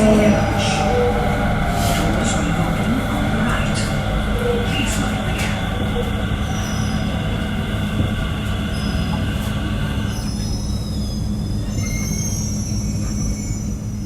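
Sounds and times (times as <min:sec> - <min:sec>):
high-pitched wheel squeal: 0:00.0 - 0:08.0, 0:09.9 - 0:14.0
metro train rumble: 0:00.0 - 0:14.0
train whine: 0:00.0 - 0:14.0.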